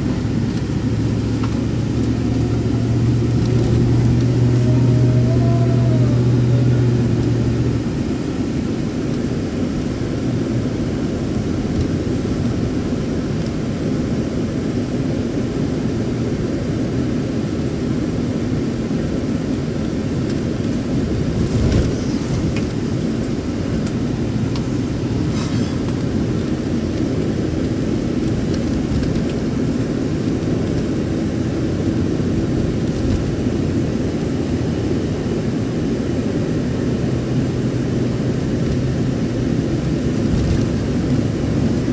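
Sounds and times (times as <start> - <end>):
vehicle road and engine rumble: 0.0 - 41.9.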